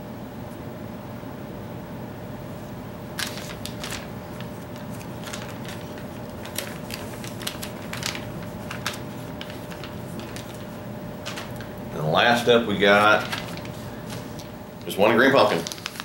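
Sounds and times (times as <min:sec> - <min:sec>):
low steady hum: 0:00.0 - 0:16.0
plastic packaging crinkling: 0:03.2 - 0:16.0.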